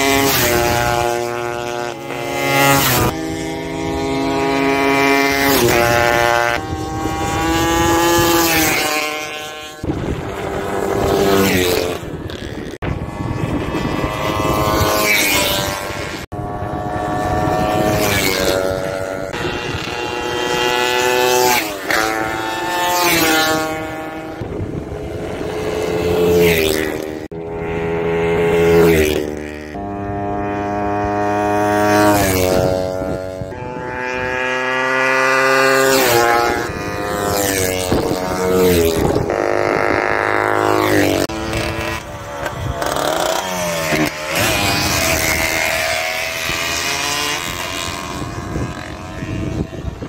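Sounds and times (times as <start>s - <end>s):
racing motorcycles passing: 0.0s - 50.0s.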